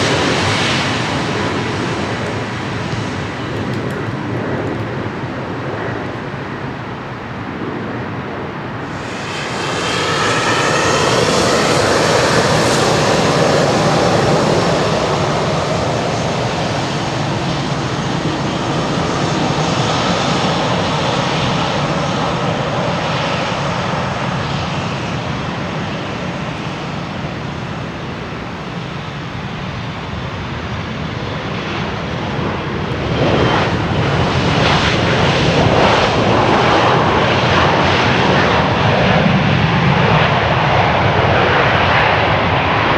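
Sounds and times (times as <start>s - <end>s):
jet engines rushing with whine: 0.0s - 42.9s.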